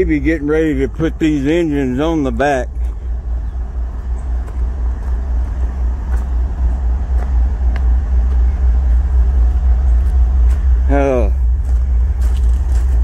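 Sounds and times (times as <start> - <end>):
locomotive idling: 0.0 - 13.0.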